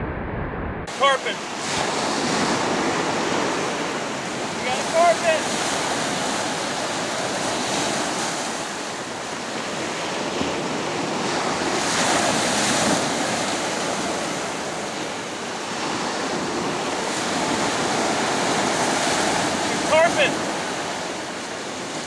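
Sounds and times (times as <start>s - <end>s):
ocean waves breaking: 0.8s - 22.0s.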